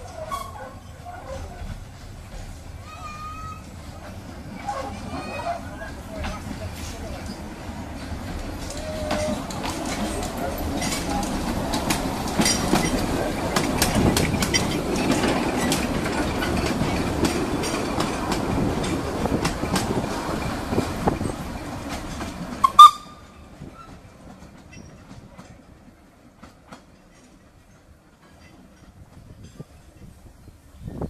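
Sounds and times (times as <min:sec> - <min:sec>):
steam train rumbling past: 0:00.0 - 0:31.0
wheels clicking over rail joints: 0:00.0 - 0:31.0.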